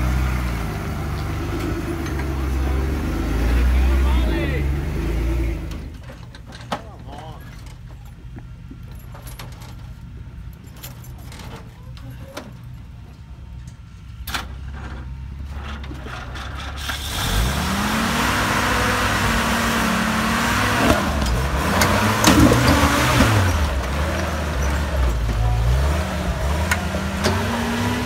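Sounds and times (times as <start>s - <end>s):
jeep engine idling and revving: 0.0s - 6.6s, 7.2s - 28.0s.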